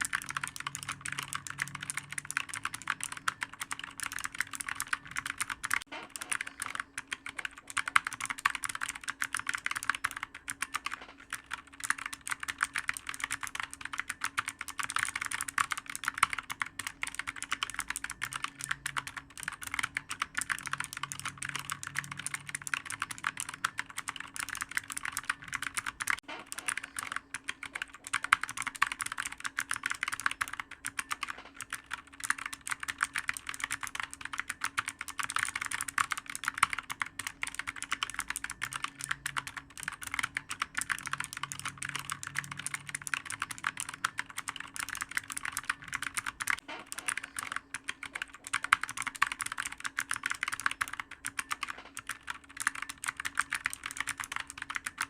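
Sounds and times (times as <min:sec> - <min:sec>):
fast typing on clicky keyboard: 0:00.0 - 0:55.0.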